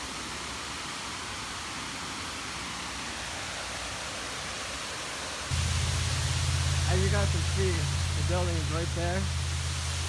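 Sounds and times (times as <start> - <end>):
large waterfall rushing: 0.0 - 10.0.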